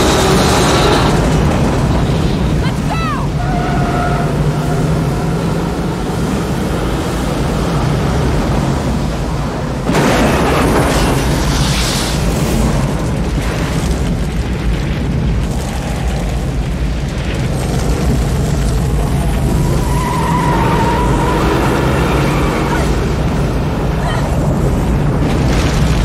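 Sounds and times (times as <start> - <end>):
deep rumble of fire and wind: 0.0 - 26.0.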